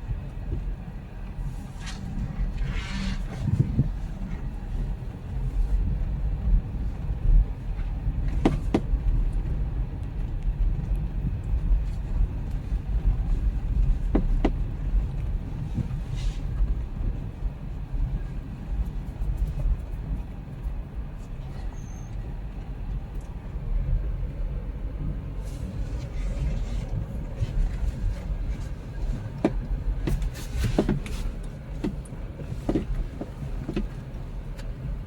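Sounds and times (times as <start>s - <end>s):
car driving rumble: 0.0s - 35.0s.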